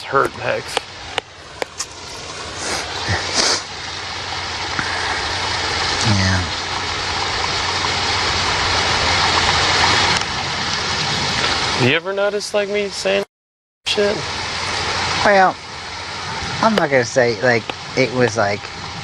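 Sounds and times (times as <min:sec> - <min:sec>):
steady rushing noise: 0:00.0 - 0:13.2, 0:13.9 - 0:19.0.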